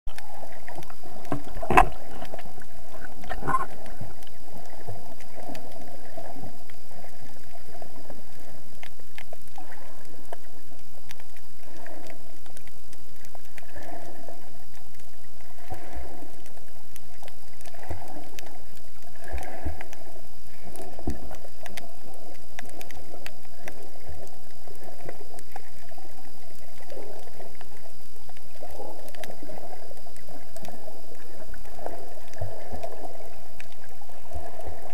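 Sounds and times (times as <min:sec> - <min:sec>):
muffled underwater swishing: 0:00.1 - 0:34.9.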